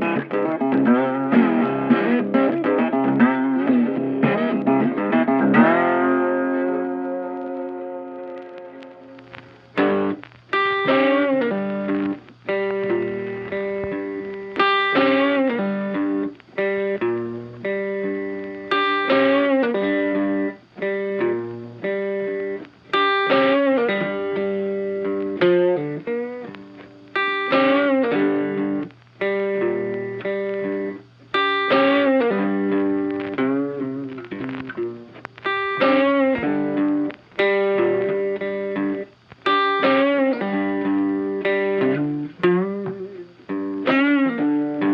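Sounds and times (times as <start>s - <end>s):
guitar playing chords: 0.0s - 44.9s.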